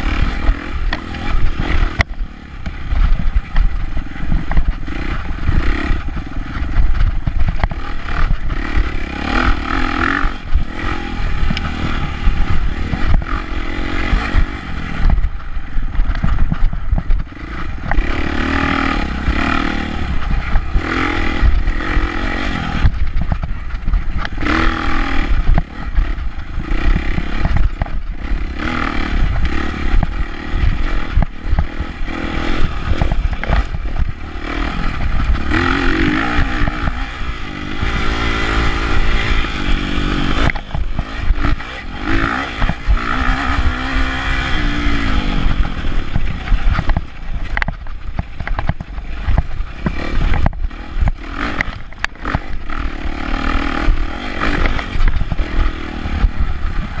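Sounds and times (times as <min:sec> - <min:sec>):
dirt bike engine revving: 0:00.0 - 0:57.0
bike clattering over bumps: 0:00.7 - 0:57.0.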